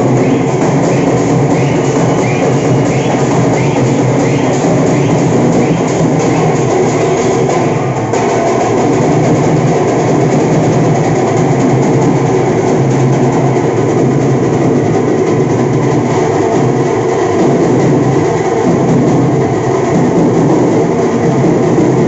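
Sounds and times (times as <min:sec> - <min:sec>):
dhol drums playing fast beat: 0:00.0 - 0:22.0.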